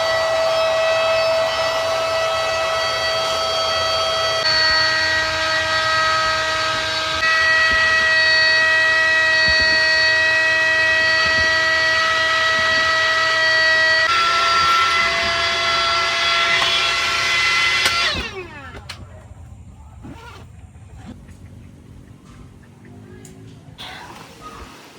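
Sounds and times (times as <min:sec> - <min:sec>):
electric air pump whining: 0:00.0 - 0:21.2.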